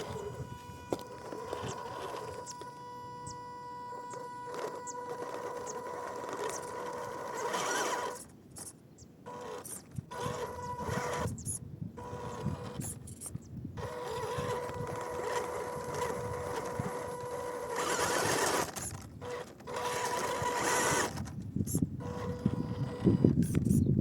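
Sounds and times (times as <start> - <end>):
rough rasping: 0.0 - 23.8
electric motor and gearbox whining: 0.0 - 24.0.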